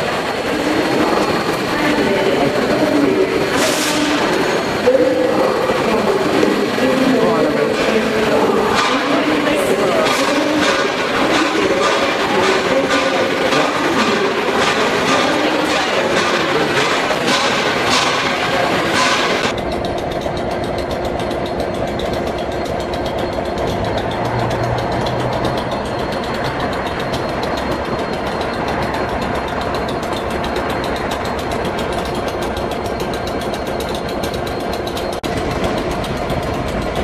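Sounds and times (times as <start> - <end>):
train engine idling: 0.0 - 37.0.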